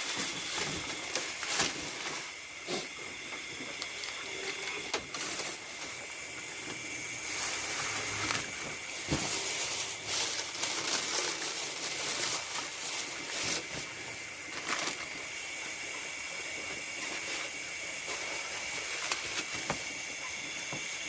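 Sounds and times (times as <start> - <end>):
insects trilling: 0.1 - 21.0.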